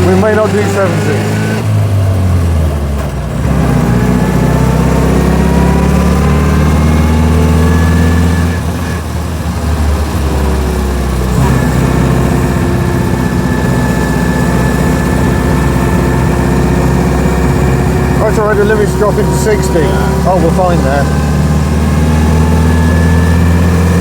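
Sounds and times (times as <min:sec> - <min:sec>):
small car engine accelerating: 0:00.0 - 0:24.0.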